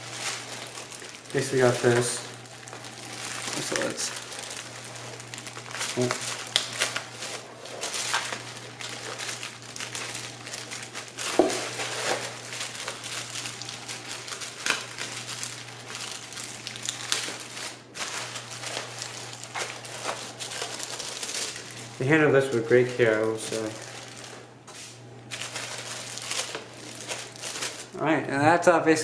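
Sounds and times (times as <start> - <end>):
bubble wrap crinkling: 0.0 - 28.0
plastic bag rustling: 0.0 - 28.0.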